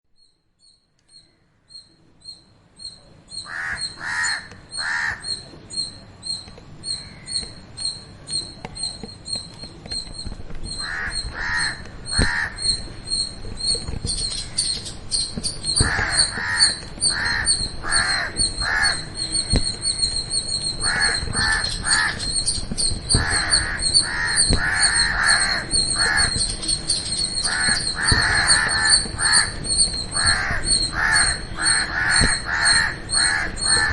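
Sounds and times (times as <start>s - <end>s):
harsh caw-like bird calls: 1.0s - 1.9s, 3.3s - 6.0s, 6.8s - 9.1s, 10.0s - 33.9s
high fast bird chirping: 4.7s - 33.9s.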